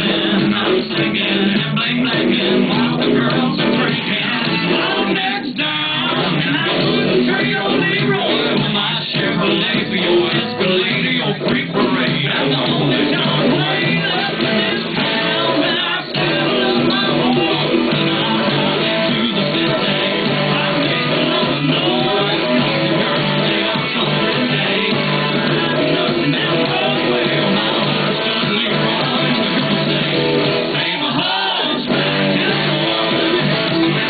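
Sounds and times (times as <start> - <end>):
country-rock song with male vocal: 0.0 - 34.0
electric guitar through amplifier: 0.0 - 34.0.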